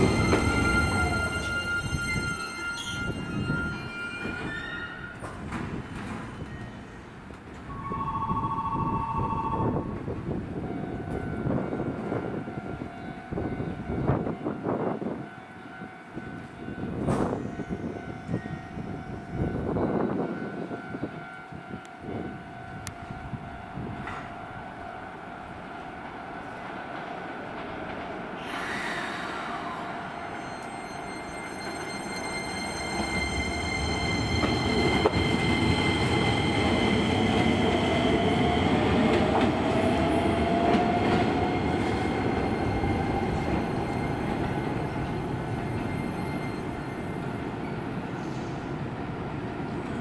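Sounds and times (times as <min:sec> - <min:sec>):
train wheels rumbling on rails: 0:00.0 - 0:07.8, 0:09.6 - 0:50.0.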